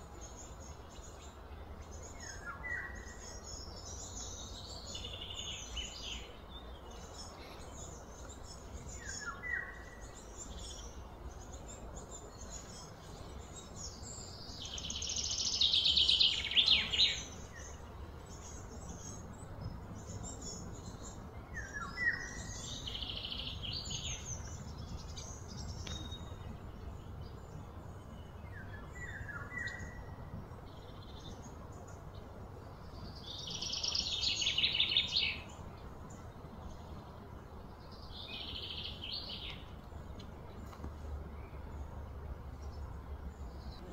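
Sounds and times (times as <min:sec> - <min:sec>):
birds chirping and calling: 0:00.0 - 0:43.9
low outdoor rumble: 0:00.0 - 0:43.9.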